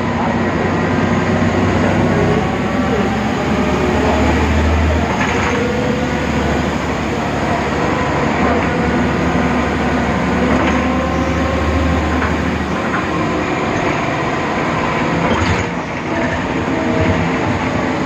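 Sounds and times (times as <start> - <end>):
bus diesel engine drone: 0.0 - 18.0
road noise: 0.0 - 18.0.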